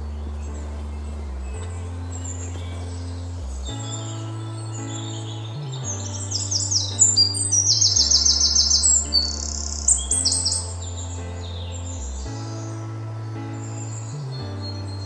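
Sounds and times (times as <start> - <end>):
soft background music: 0.0 - 15.0
songbird chirping and trilling: 0.0 - 15.0.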